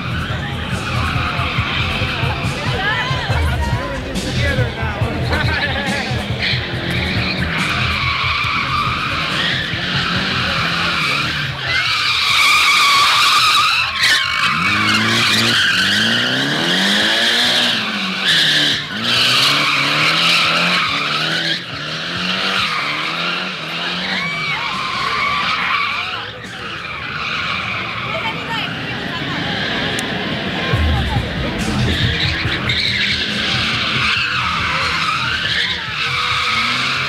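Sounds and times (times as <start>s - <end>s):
car engine revving: 0.0s - 37.0s
tyres screeching: 0.0s - 37.0s.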